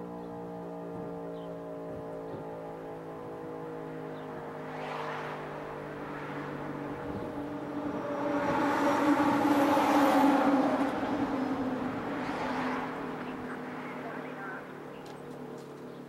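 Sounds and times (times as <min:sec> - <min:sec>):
warning siren steady tone: 0:00.0 - 0:04.6, 0:05.4 - 0:12.2, 0:13.2 - 0:15.1.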